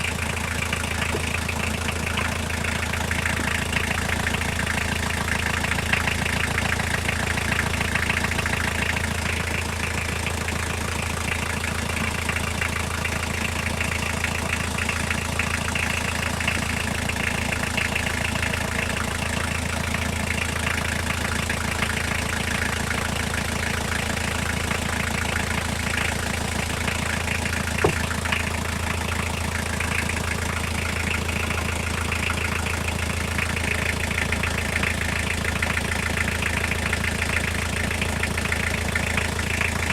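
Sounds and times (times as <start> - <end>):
diesel engine idling with knock: 0.0 - 39.9.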